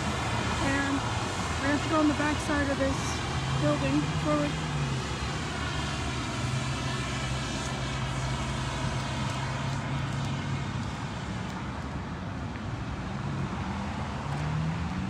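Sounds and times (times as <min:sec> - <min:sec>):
road traffic noise: 0:00.0 - 0:15.0
vehicle engine humming: 0:00.0 - 0:15.0.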